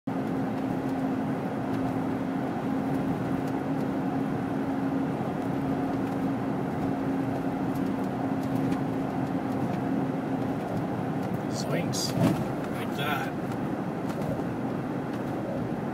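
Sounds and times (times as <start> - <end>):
vehicle engine and road noise: 0.1 - 15.9.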